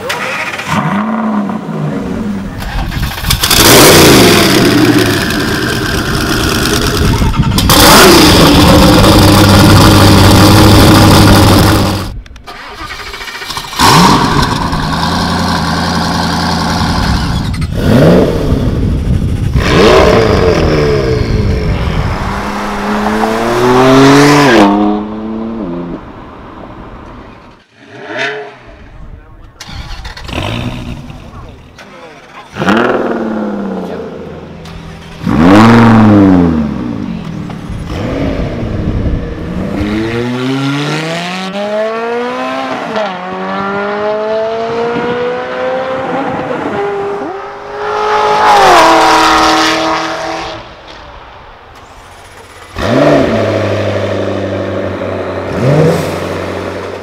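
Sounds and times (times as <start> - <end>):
car engines revving and accelerating: 0.0 - 12.2, 13.6 - 57.0.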